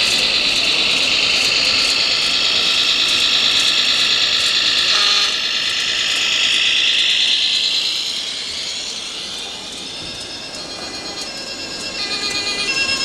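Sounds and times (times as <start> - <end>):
model truck electric whine: 0.0 - 13.0.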